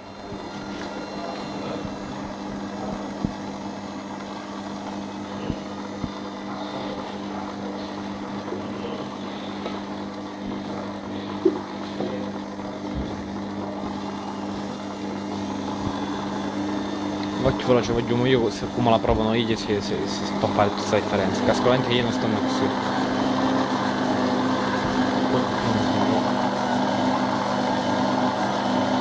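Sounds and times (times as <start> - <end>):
mixer motor humming: 0.0 - 29.0.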